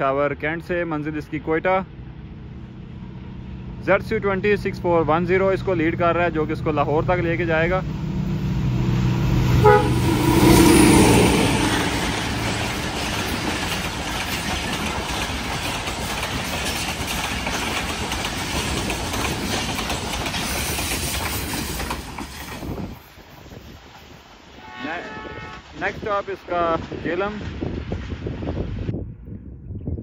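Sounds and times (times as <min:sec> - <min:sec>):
passenger train passing at speed: 0:00.0 - 0:29.6.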